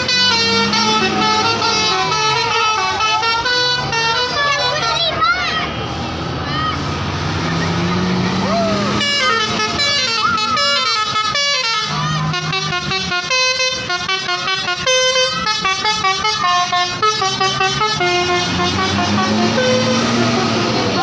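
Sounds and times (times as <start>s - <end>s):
bus multi-tone horn tune: 0.0s - 5.6s, 8.8s - 21.0s.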